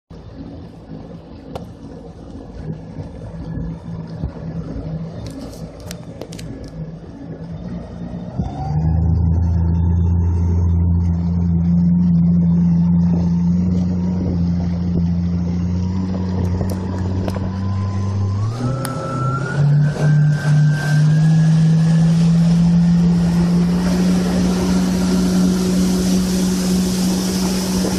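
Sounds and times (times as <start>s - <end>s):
jet ski engine: 0.1s - 27.9s.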